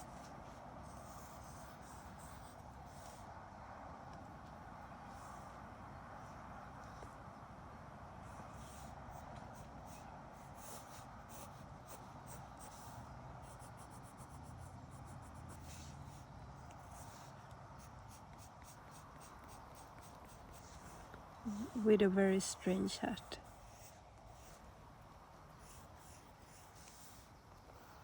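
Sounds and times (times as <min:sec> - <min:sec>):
pencil scratching on paper: 0:00.0 - 0:03.2, 0:08.3 - 0:28.0
distant road traffic rumble: 0:00.0 - 0:28.0.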